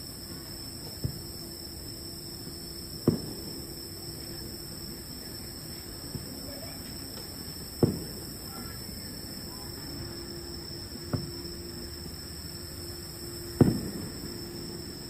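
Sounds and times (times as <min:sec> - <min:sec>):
distant fireworks booming: 0:00.0 - 0:15.0
steady background hiss: 0:00.0 - 0:15.0.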